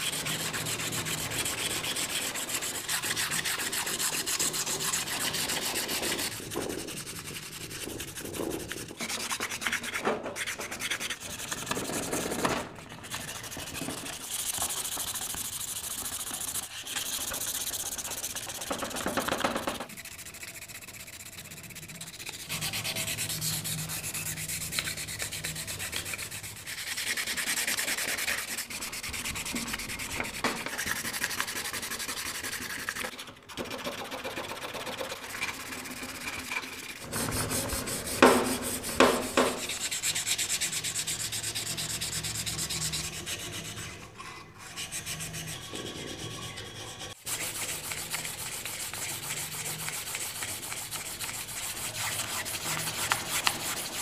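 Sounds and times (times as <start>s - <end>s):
sandpaper rasping on steel: 0.0s - 33.2s, 33.8s - 54.0s.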